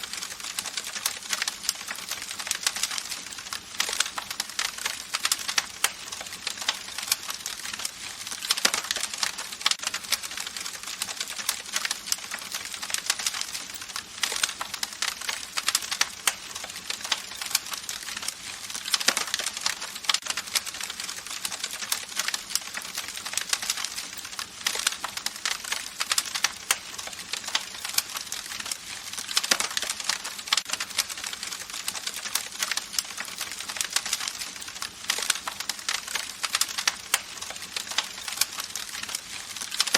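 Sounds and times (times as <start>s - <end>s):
burning wood popping and snapping: 0.0s - 39.9s.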